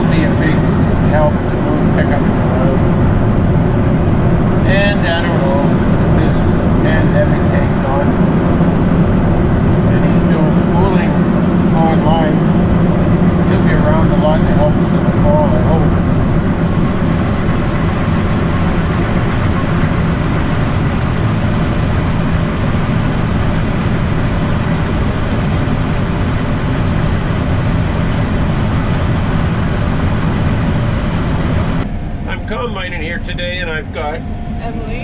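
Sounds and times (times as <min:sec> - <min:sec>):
diesel machinery engine drone: 0:00.0 - 0:35.0.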